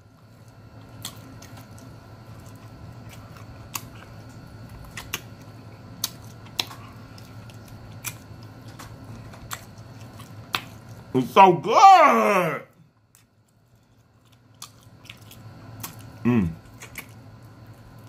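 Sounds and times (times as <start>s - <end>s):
low steady hum: 0.0s - 18.0s
eating clicks and smacks: 0.4s - 11.1s, 13.0s - 18.0s.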